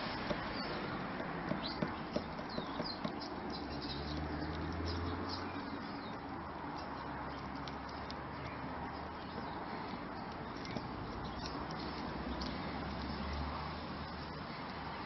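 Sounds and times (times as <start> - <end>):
hens pecking taps and clicks: 0.0 - 15.0
high bird chirps: 0.0 - 15.0.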